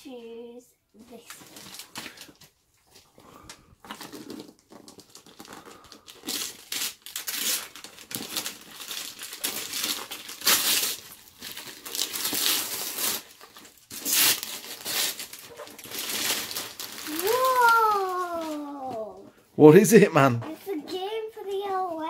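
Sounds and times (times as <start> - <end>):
wrapping paper tearing and crumpling: 1.0 - 20.4.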